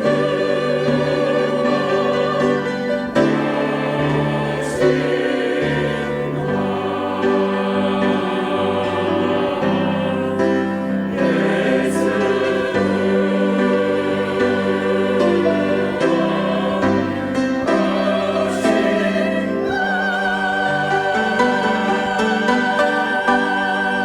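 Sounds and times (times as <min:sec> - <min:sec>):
choir singing long chords: 0:00.0 - 0:24.0.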